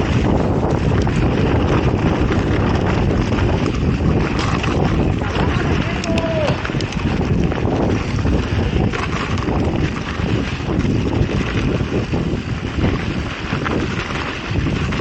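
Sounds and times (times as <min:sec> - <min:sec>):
bike rattling over bumps: 0:00.0 - 0:15.0
wind buffeting microphone: 0:00.0 - 0:15.0.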